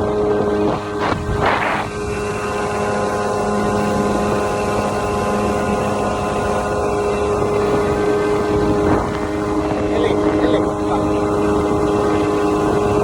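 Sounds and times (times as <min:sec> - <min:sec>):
motorboat engine drone: 0:00.0 - 0:13.0
rushing water: 0:00.0 - 0:13.0
wind: 0:00.0 - 0:13.0.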